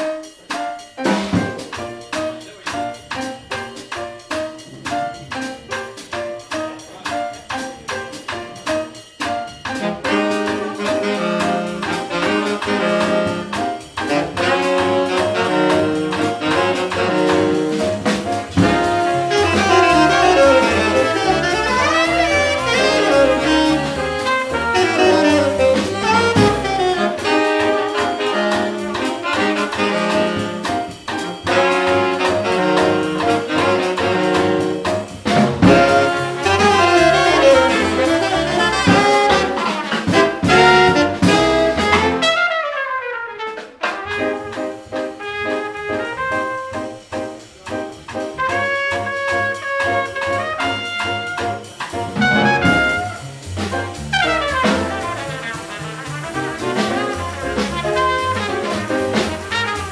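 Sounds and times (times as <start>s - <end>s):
jazz band playing: 0.0s - 59.9s.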